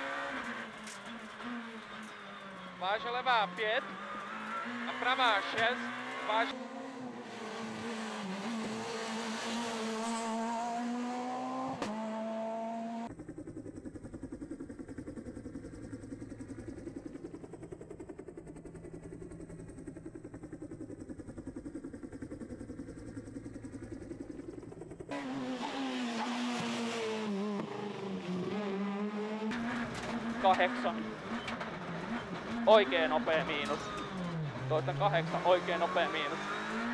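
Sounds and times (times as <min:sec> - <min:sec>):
low pulsing engine note: 0:00.0 - 0:36.9
rally car engine revving: 0:00.0 - 0:36.9.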